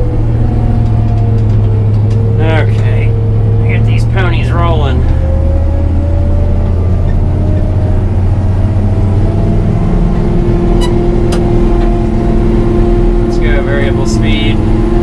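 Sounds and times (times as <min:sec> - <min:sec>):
combine engine running under load: 0:00.0 - 0:15.0.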